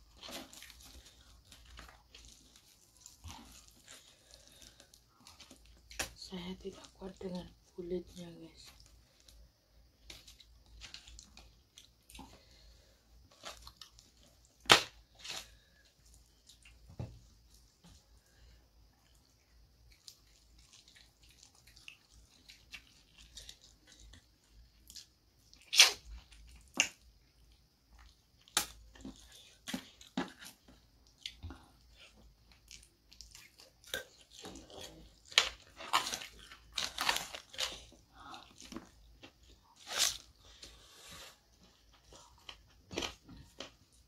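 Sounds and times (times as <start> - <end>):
chewing with sharp crunches: 0.0 - 44.0.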